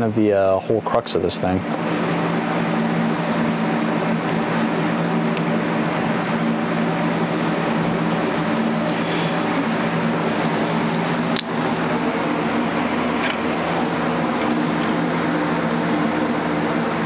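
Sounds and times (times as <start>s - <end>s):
droning hum of low tones: 0.0s - 17.0s.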